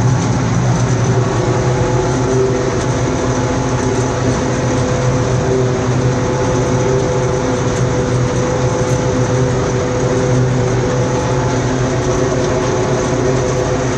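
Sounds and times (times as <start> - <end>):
combine harvester drone: 0.0 - 13.9.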